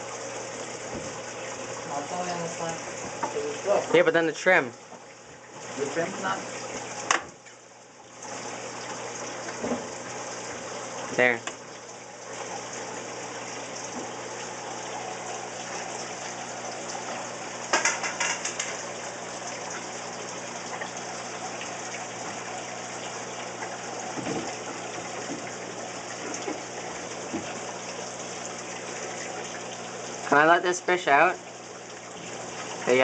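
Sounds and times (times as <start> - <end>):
low pump hum: 0.0 - 33.0
water rushing into tanks: 0.0 - 33.0.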